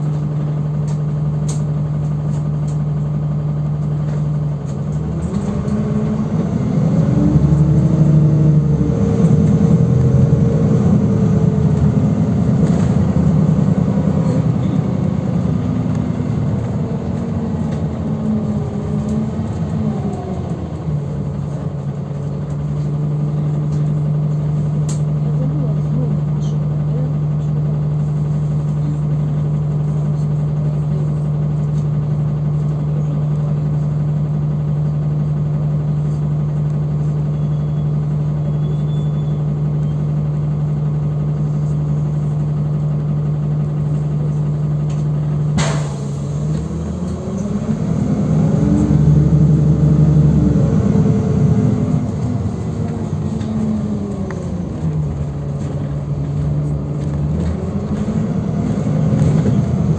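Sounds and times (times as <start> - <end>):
bus engine humming: 0.0 - 59.9.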